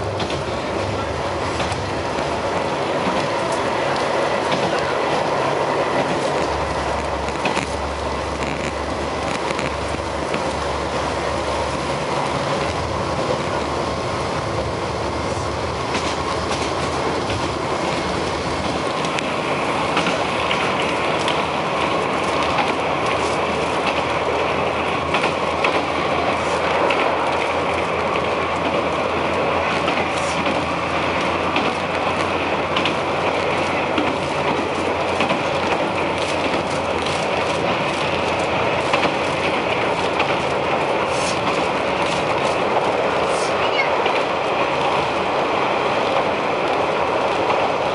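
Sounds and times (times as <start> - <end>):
wheels clicking over rail joints: 0.0 - 47.9
wheels rumbling on rail: 0.0 - 47.9.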